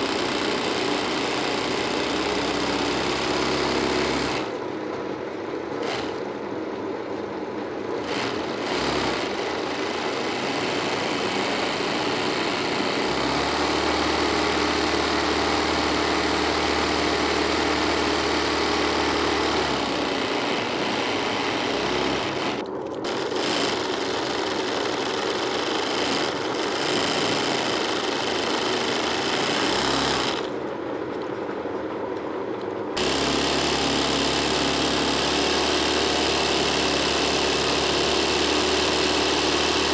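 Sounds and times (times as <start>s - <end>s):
electric sewing machine running: 0.0s - 4.6s, 5.7s - 6.3s, 8.0s - 30.6s, 33.0s - 39.9s.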